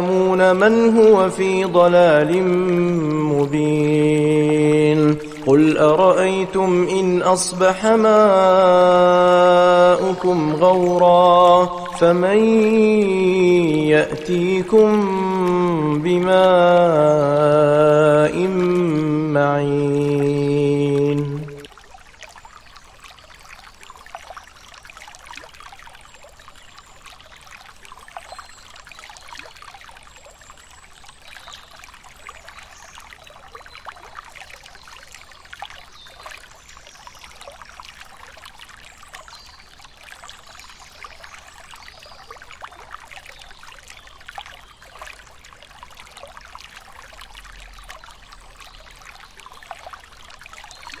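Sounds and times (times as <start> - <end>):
stream trickling over rocks: 0.0 - 51.0.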